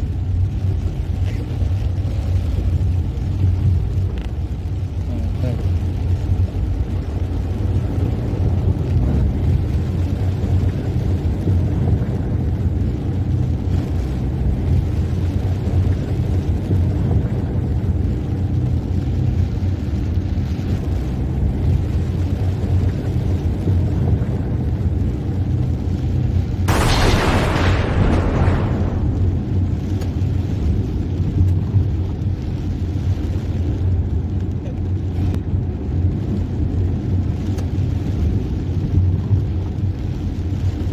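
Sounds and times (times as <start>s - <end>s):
car engine rumble: 0.0s - 40.9s
tyres on wet road: 0.0s - 40.9s.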